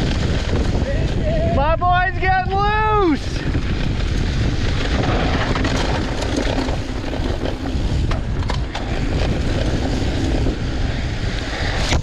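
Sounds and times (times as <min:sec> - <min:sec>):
bike rattling: 0:00.0 - 0:12.0
bike tyres rushing on dirt: 0:00.0 - 0:12.0.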